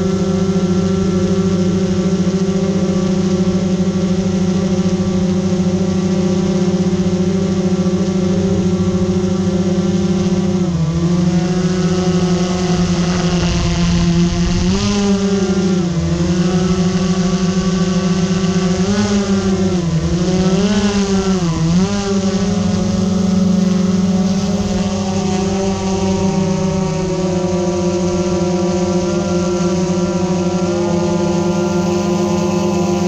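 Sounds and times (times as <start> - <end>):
drone propellers buzzing: 0.0 - 33.0.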